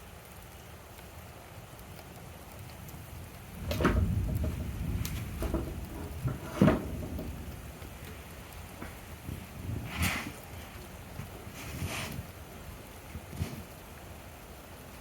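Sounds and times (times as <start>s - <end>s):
rain falling: 0.0s - 15.0s
thunder rumble: 2.8s - 15.0s.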